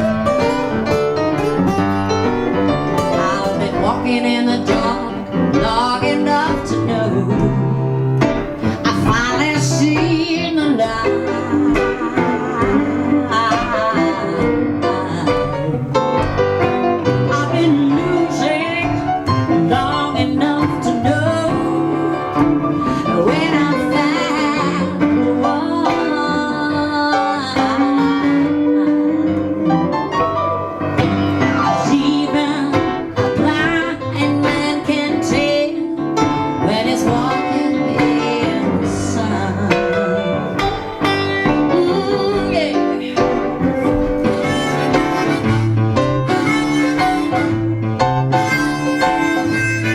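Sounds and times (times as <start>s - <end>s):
jazz blues piano and guitar: 0.0s - 49.9s
woman singing: 2.7s - 30.2s, 31.3s - 47.6s.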